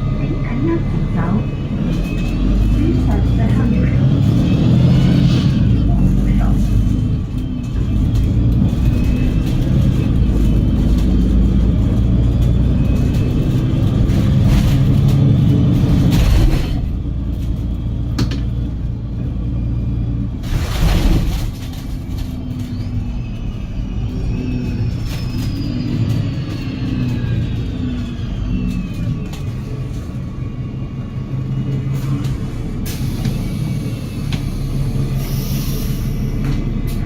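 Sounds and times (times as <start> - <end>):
bus diesel engine pulling: 0.0 - 37.0.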